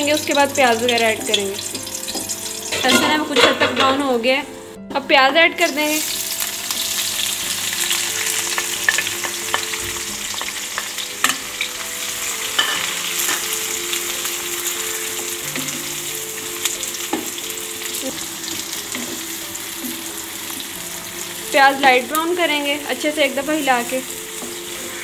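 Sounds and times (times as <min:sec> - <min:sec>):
onions sizzling in oil: 0:00.0 - 0:04.4, 0:05.6 - 0:25.0.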